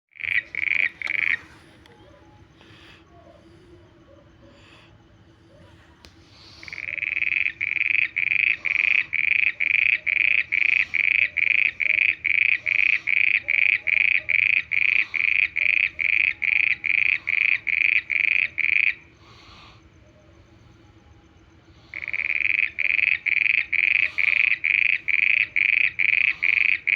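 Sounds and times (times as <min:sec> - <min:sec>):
frog calling: 0:00.1 - 0:26.9.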